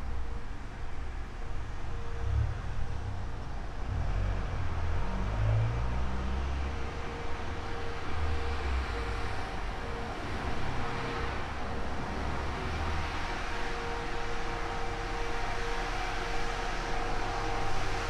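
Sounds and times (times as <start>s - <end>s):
faint steady hum: 0.0s - 18.0s
vehicle engines rumbling: 0.0s - 18.0s.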